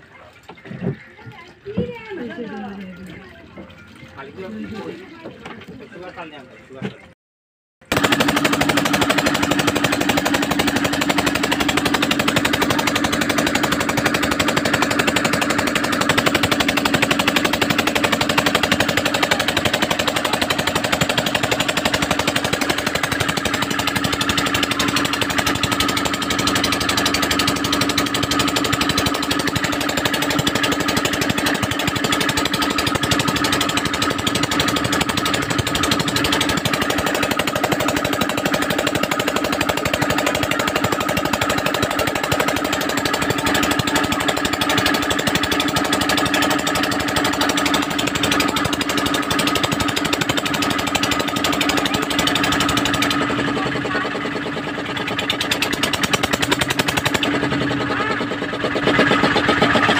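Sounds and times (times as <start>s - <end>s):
boat diesel engine knocking: 7.9s - 59.9s.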